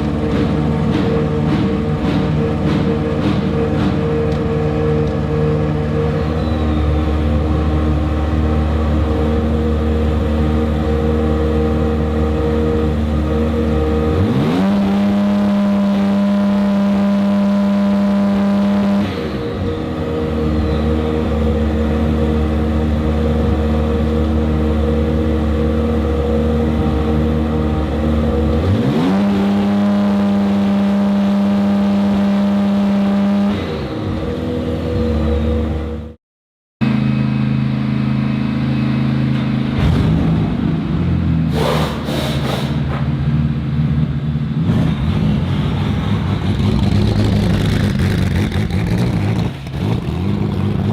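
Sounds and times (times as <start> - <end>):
race car engine idling and revving: 0.0 - 36.2, 36.8 - 50.9.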